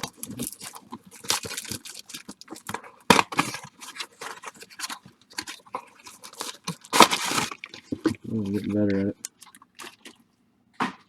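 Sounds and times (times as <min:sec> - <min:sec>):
card pack wrappers tearing: 0:00.0 - 0:10.2.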